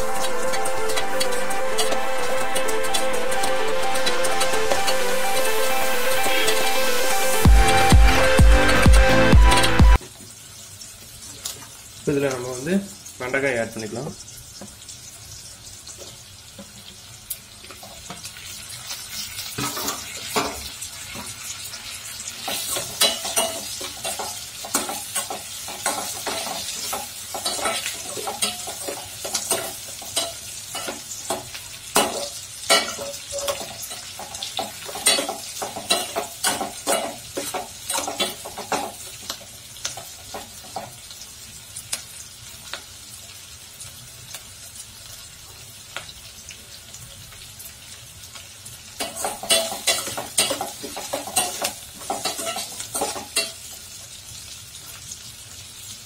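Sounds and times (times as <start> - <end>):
vegetables sizzling in oil: 0.0 - 8.3, 9.9 - 56.0.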